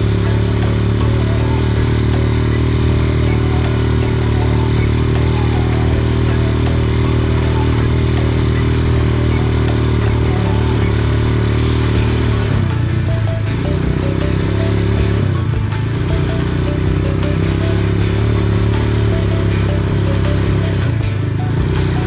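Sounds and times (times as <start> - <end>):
atv engine running: 0.0 - 22.0
rapid even ticking: 0.0 - 22.0.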